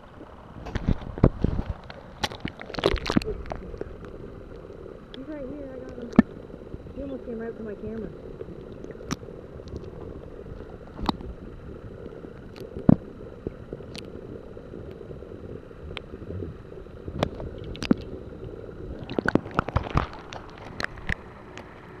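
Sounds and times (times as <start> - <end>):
low rumble: 0.0 - 22.0
water gurgling and sloshing: 0.0 - 22.0.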